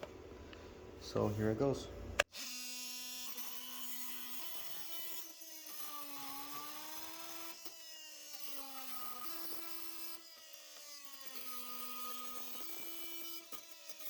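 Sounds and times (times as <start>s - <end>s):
oscillating multi-tool cutting wood: 2.2s - 14.0s.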